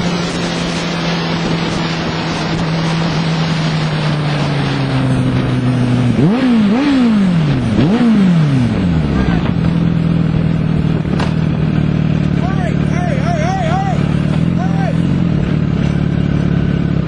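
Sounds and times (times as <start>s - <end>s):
heavy wind noise: 0.0s - 15.6s
motorcycle engine revving: 0.0s - 17.0s.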